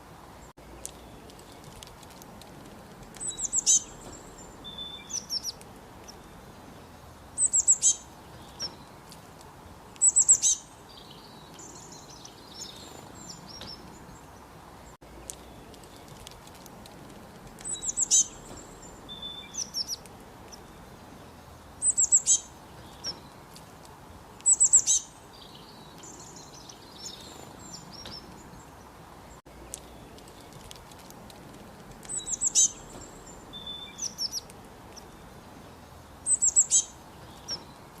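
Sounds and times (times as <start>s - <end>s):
background hiss: 0.0s - 38.0s
birds chirping: 0.0s - 38.0s
bird singing sharp phrases: 0.4s - 38.0s.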